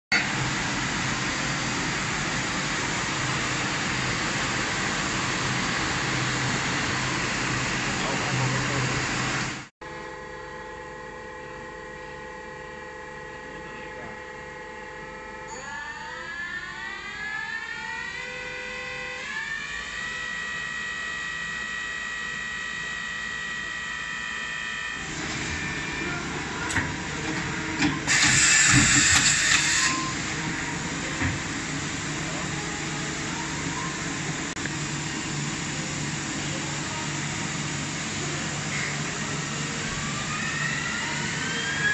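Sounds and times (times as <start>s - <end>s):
low machine hum: 0.1s - 41.9s.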